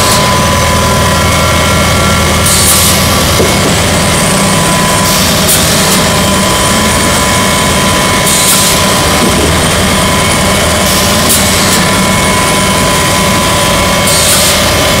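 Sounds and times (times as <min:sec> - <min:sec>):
machine mechanical din: 0:00.0 - 0:15.0
thin constant whine: 0:00.0 - 0:15.0.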